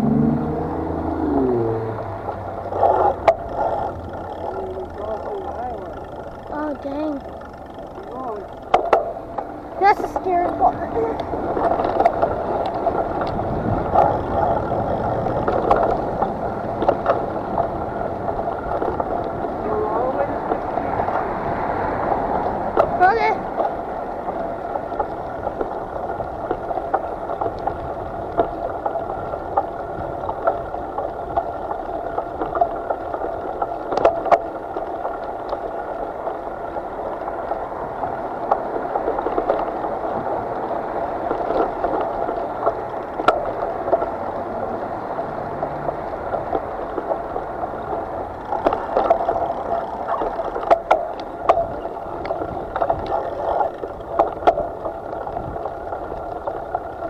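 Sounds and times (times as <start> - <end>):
water rushing around a boat: 0.0 - 57.0.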